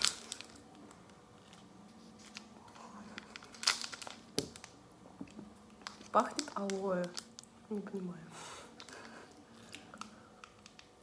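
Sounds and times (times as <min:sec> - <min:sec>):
sweet wrapper crinkling: 0:00.0 - 0:08.1, 0:08.7 - 0:11.0
wrapper crackles: 0:00.0 - 0:08.1, 0:08.7 - 0:11.0.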